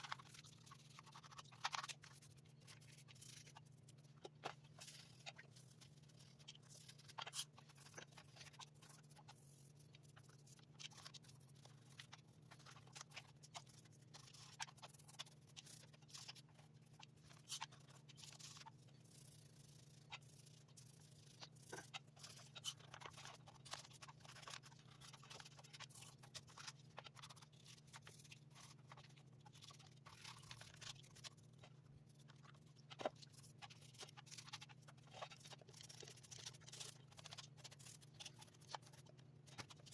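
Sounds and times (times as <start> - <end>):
small parts clicking and scraping: 0.0 - 39.9.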